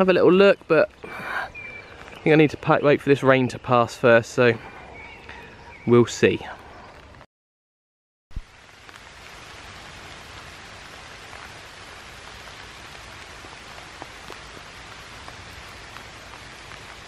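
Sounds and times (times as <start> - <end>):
rain on leafy undergrowth: 0.0 - 7.3, 8.3 - 17.0.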